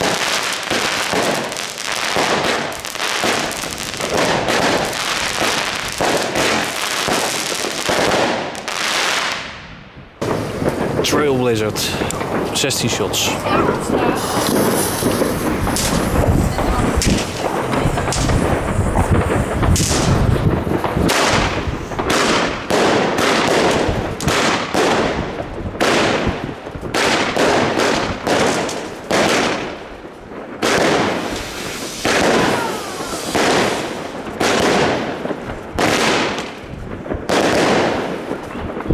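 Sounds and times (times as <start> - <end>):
firework shots: 0.0 - 38.9.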